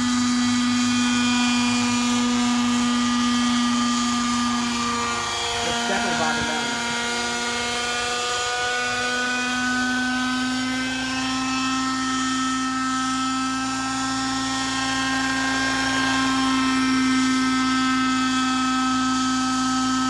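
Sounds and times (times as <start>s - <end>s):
model helicopter engine and rotors: 0.0s - 20.0s.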